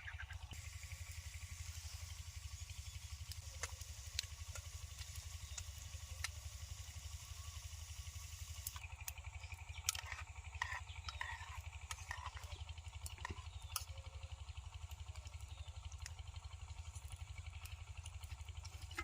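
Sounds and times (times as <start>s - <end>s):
low engine hum pulsing: 0.0s - 19.0s.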